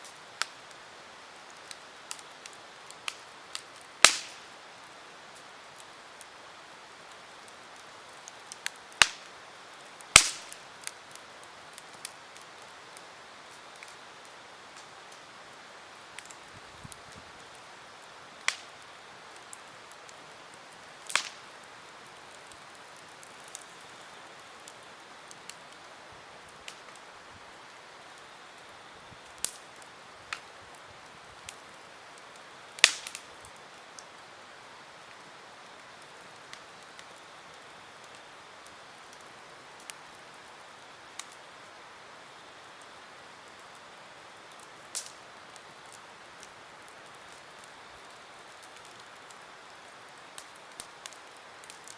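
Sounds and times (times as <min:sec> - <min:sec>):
sharp pops from fire: 0:00.0 - 0:41.5, 0:42.2 - 0:51.9
campfire crackling: 0:00.0 - 0:51.9
fire hiss: 0:00.0 - 0:51.9.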